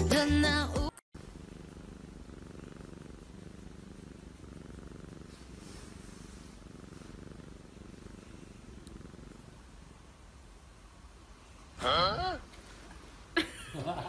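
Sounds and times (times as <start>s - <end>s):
cat purring: 1.2s - 13.3s.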